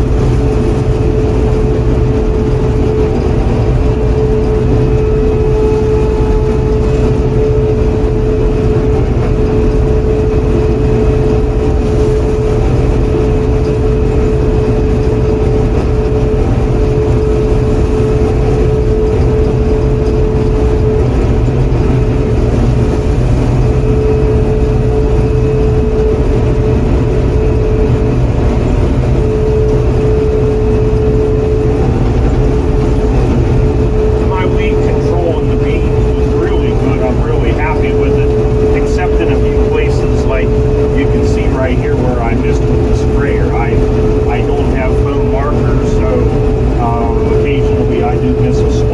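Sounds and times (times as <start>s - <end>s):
combine engine running: 0.0s - 48.9s
constant whine: 0.0s - 48.9s.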